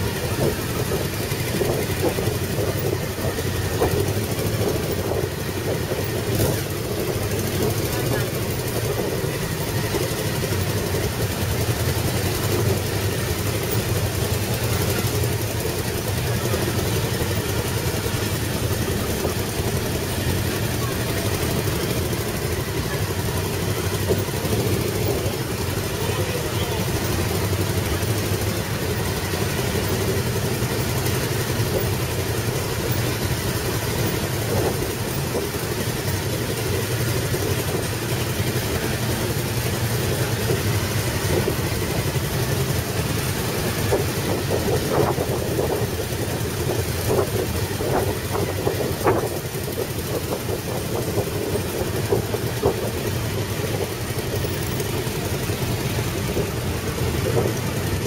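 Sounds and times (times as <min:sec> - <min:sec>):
motorcycle engines at low revs: 0:00.0 - 0:58.0.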